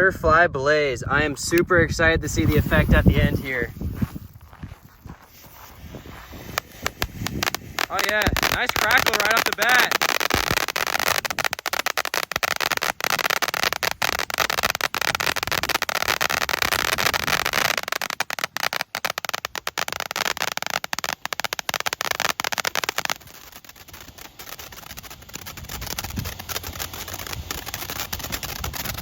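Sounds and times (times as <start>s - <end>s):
firework crackling: 1.3s - 29.0s.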